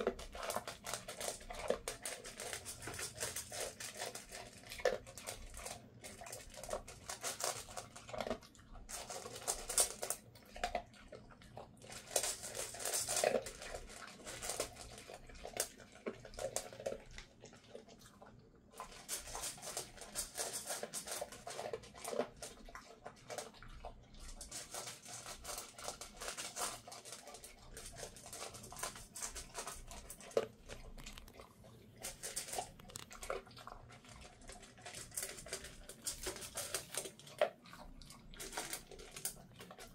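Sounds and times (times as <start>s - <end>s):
dog crunching kibble in metal bowl: 0.0s - 39.9s.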